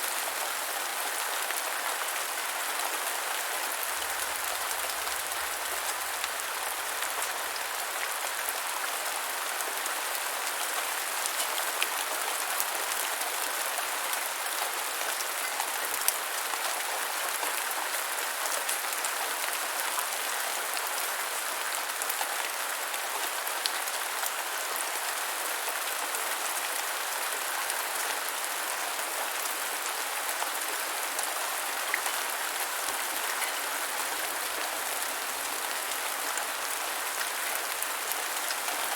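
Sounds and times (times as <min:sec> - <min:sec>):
rain falling on ground: 0:00.0 - 0:38.9.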